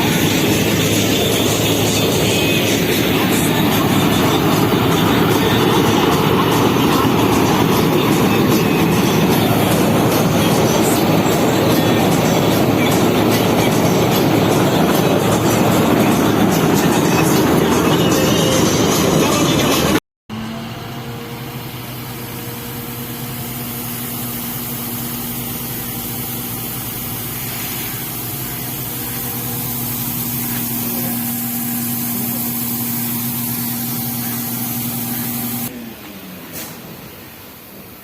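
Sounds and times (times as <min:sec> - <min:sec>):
machine engine humming: 0:00.0 - 0:38.0.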